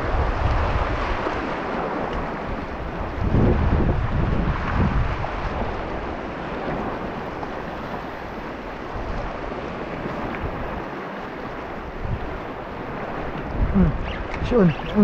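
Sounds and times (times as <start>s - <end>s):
sea waves rushing: 0.0s - 15.0s
wind buffeting microphone: 0.0s - 15.0s.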